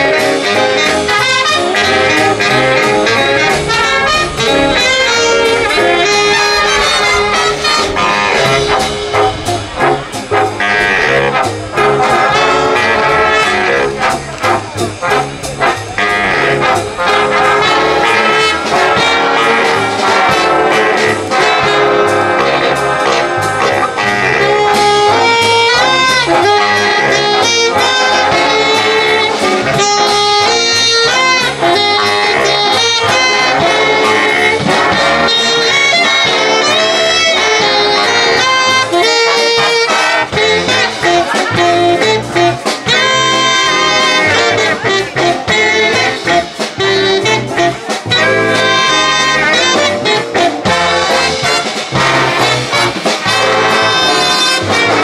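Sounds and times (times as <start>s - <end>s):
big band playing jazz: 0.0s - 55.0s.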